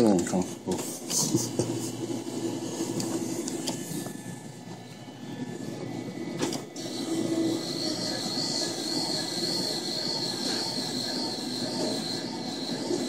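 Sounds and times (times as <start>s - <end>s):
claw machine motors whirring: 0.3s - 13.0s.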